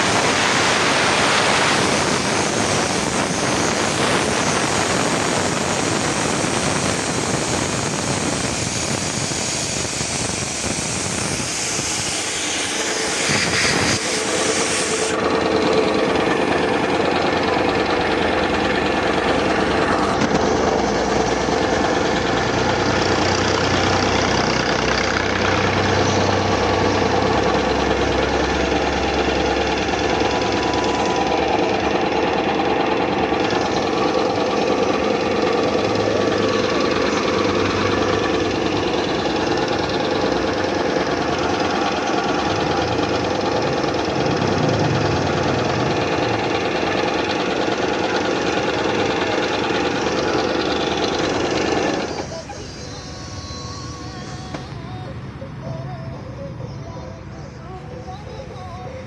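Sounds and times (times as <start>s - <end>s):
piston air compressor running: 0.0s - 59.0s.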